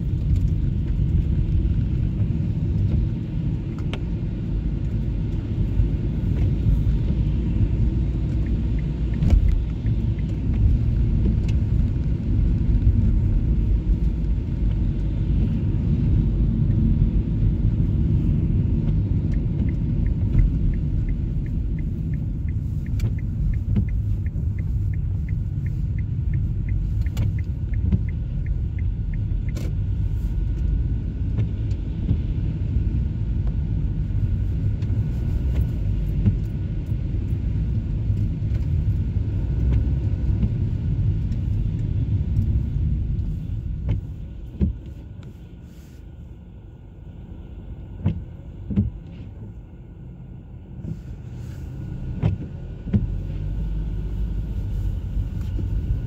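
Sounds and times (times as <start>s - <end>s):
tyre noise on wet road: 0.0s - 45.9s
car cabin rumble: 0.0s - 56.0s.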